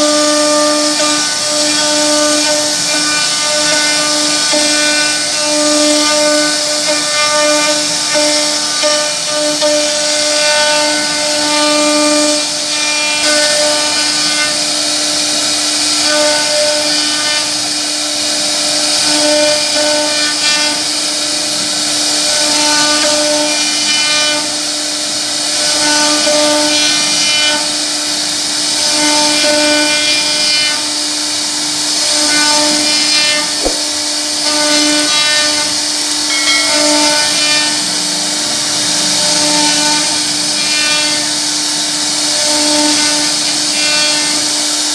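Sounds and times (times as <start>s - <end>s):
cutter hissing in wood: 0.0s - 44.9s
wood router spindle whine: 0.0s - 44.9s.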